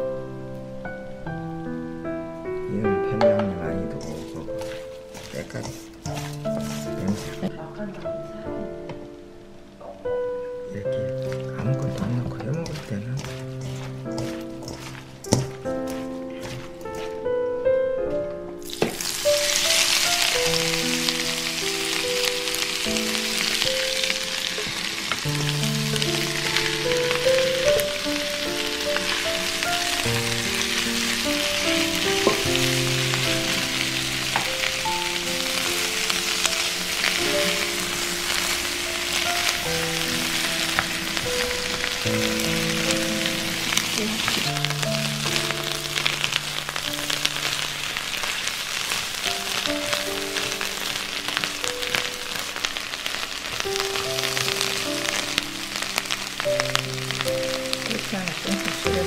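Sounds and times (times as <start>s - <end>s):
gentle melody: 0.0s - 59.0s
food sizzling in hot oil: 3.4s - 8.0s, 10.9s - 17.3s, 18.6s - 59.0s.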